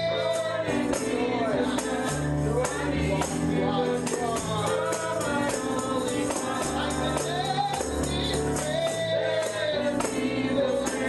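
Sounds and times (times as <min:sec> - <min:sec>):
bass line: 0:00.0 - 0:11.0
people singing: 0:00.0 - 0:11.0
tambourine beat: 0:00.0 - 0:11.0.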